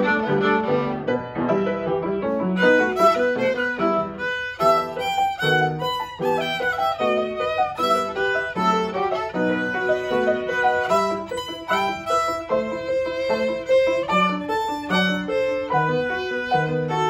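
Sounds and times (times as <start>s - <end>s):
violin playing a hornpipe: 0.0s - 1.2s, 2.6s - 17.0s
grand piano chords: 0.0s - 17.0s.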